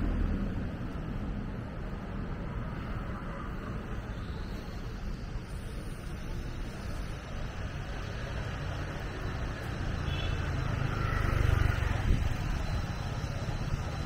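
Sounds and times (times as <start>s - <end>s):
vehicle passing with engine rumble: 0.0s - 14.0s.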